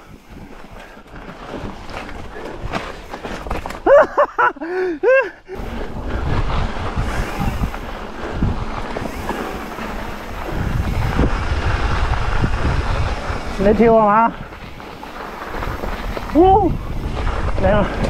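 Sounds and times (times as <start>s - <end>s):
wind over microphone: 0.0s - 3.9s, 5.5s - 18.0s
bike tyres rattling over rocks: 0.0s - 18.0s.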